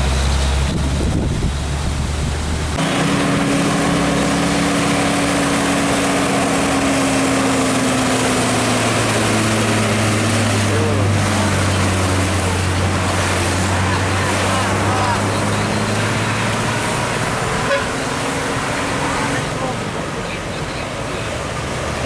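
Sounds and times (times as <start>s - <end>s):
diesel truck engine passing: 0.0s - 22.0s
road noise rushing: 0.0s - 22.0s.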